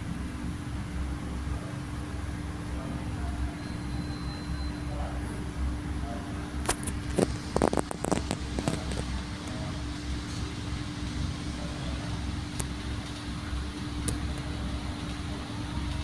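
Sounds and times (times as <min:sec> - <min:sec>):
exhaust fan humming: 0:00.0 - 0:16.0.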